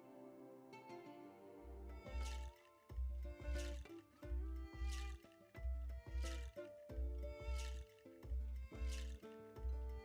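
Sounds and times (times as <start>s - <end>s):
background music with steady beat: 1.7s - 10.0s.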